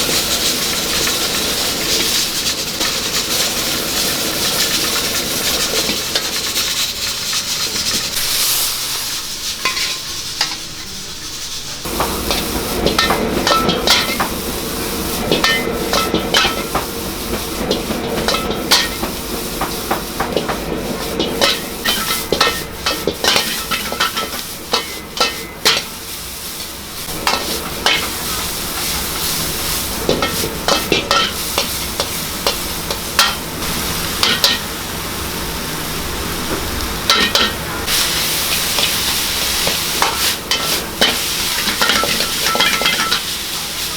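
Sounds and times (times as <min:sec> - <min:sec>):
metal ladle scraping a wok: 0:00.0 - 0:34.7, 0:37.1 - 0:43.9
food sizzling in a wok: 0:00.0 - 0:43.9.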